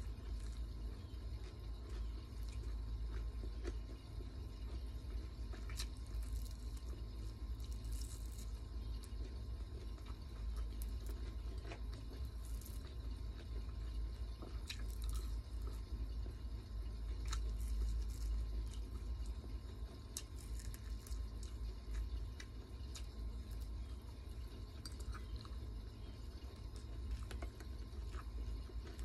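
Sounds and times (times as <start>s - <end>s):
crisp crunches and clicks: 0.0s - 16.0s, 16.6s - 29.0s
steady low hum: 0.0s - 29.0s
wet chewing of food: 0.0s - 29.0s.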